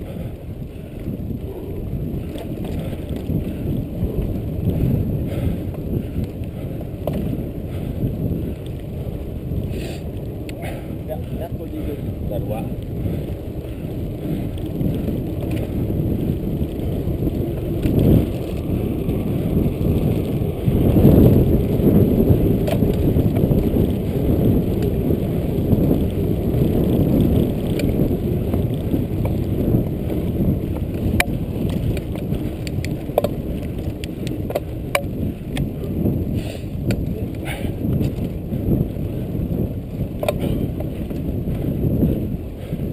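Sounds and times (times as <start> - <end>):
bike clicks and rattles: 0.0 - 42.9
bike tyres rumbling on dirt: 0.0 - 42.9
wind on camera: 0.0 - 42.9.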